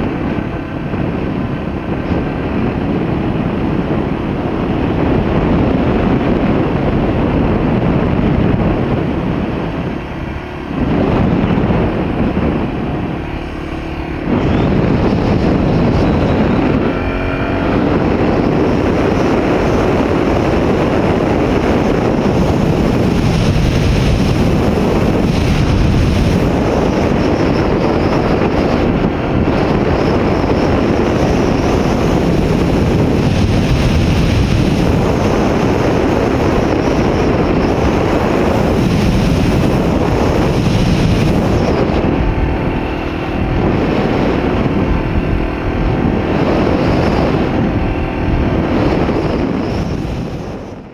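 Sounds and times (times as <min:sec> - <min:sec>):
road noise: 0:00.0 - 0:50.9
wind buffeting microphone: 0:00.0 - 0:50.9.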